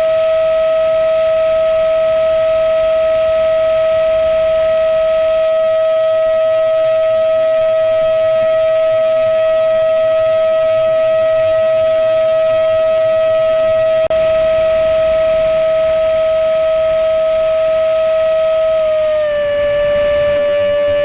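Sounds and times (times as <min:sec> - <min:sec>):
electric ducted fan jet whining: 0:00.0 - 0:21.0.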